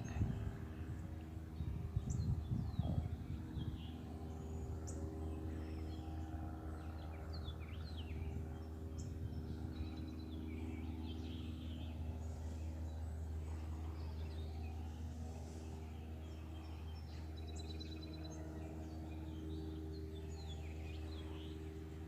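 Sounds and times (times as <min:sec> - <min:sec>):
birds singing and chirping: 0:00.0 - 0:22.0
steady low hum: 0:00.0 - 0:22.0.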